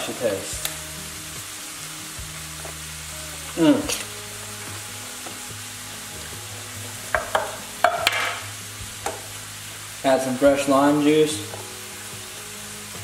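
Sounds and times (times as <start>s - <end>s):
low hum: 0.0s - 10.5s
meat sizzling in a frying pan: 0.0s - 13.0s.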